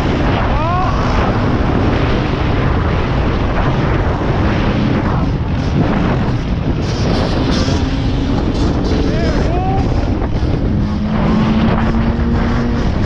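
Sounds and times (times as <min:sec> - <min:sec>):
wind noise on microphone: 0:00.0 - 0:13.0
motorcycle engine running: 0:01.0 - 0:13.0.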